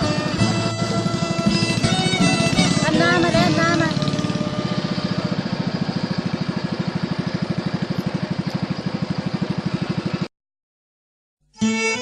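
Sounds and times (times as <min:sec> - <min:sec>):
engine puttering: 0:00.0 - 0:10.3.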